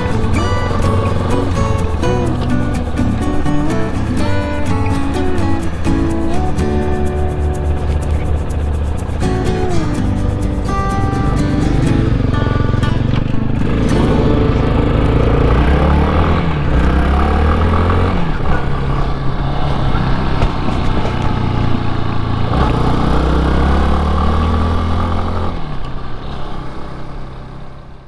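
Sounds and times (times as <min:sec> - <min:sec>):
motorcycle engine accelerating: 0:00.0 - 0:27.8.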